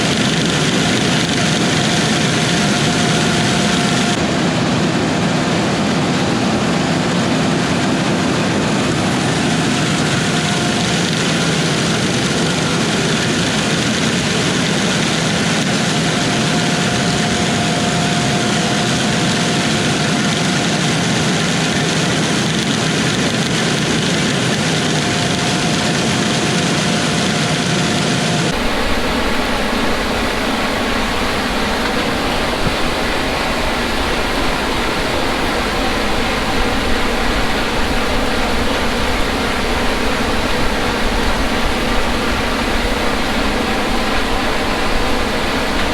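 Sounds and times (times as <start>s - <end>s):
combine harvester drone: 0.0s - 45.9s
faint machine whine: 0.0s - 45.9s.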